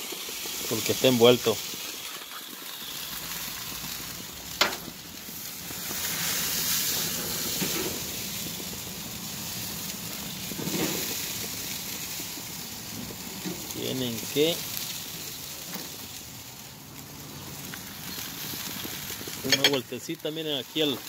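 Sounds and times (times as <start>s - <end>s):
fish sizzling on a grill: 0.0s - 21.0s.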